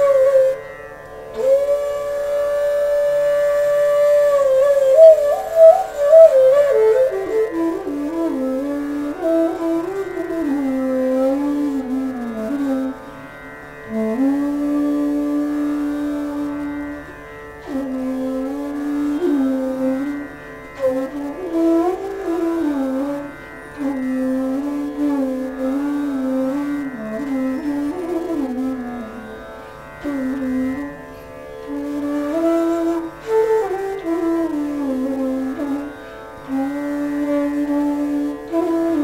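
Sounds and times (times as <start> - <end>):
bamboo flute melody: 0.0 - 13.2, 13.8 - 29.4, 30.0 - 31.0, 31.6 - 39.0.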